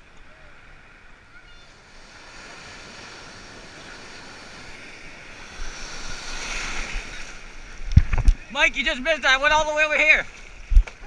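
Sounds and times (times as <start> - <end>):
ocean wave breaking: 0.0 - 10.8.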